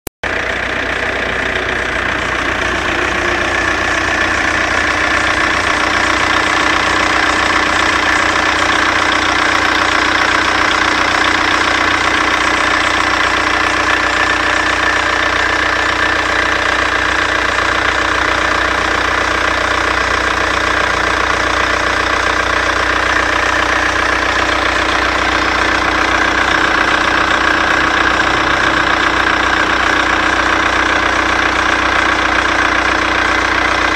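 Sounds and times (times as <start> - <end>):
car engine idling: 0.2 - 33.9
strange steady engine bay noise: 0.2 - 33.9.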